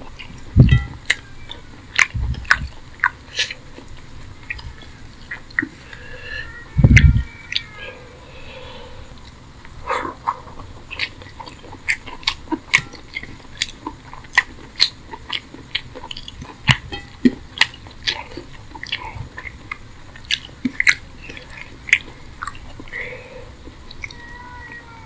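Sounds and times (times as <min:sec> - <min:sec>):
wet chewing with mouth clicks: 0:00.0 - 0:06.1, 0:09.1 - 0:23.0, 0:23.6 - 0:24.2.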